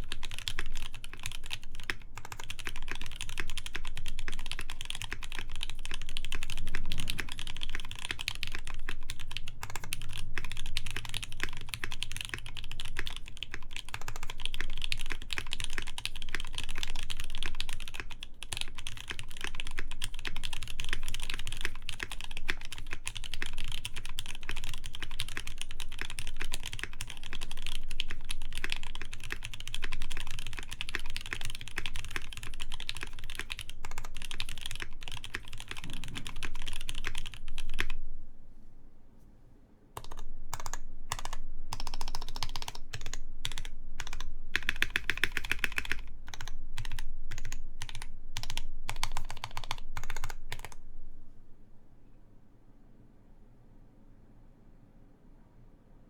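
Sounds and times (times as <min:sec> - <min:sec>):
fast typing on mechanical keyboard: 0:00.0 - 0:38.0, 0:40.0 - 0:50.8.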